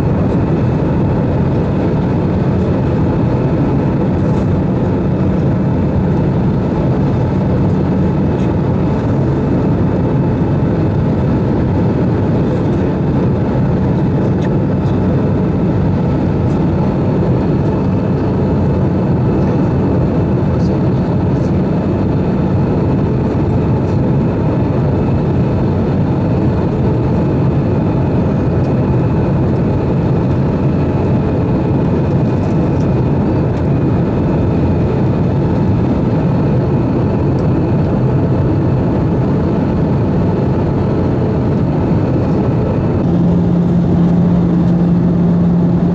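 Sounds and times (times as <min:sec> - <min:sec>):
airflow rush in cabin: 0:00.0 - 0:45.9
faint steady whine: 0:00.0 - 0:45.9
jet engines humming: 0:00.0 - 0:45.9.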